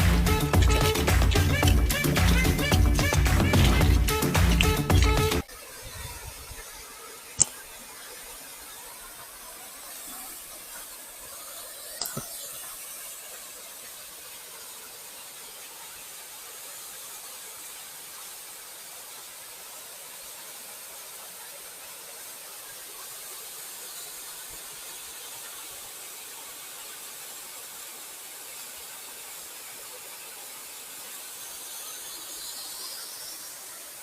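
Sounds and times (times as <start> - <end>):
high-pitched hiss: 0.0 - 34.0.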